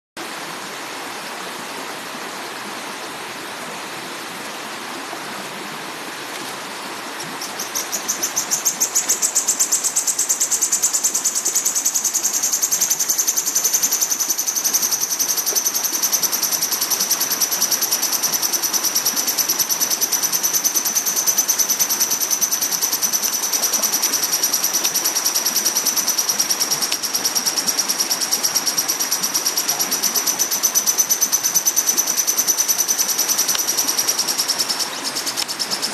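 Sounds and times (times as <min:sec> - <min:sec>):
steady hiss: 0:00.2 - 0:35.9.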